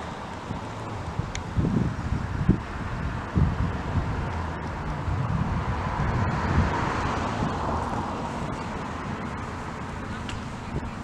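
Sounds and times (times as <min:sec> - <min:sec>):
car road and wind noise: 0:00.0 - 0:11.0
wind buffeting microphone: 0:00.0 - 0:11.0.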